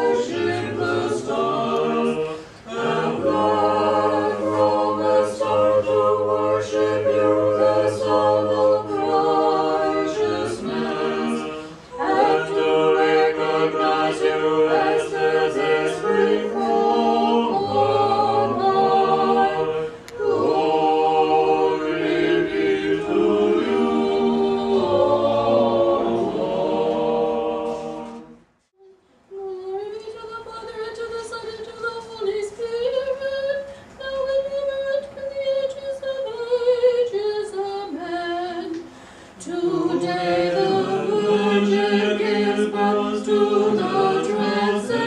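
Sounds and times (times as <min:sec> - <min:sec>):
choir chanting a cappella: 0:00.0 - 0:28.5, 0:34.5 - 0:45.0.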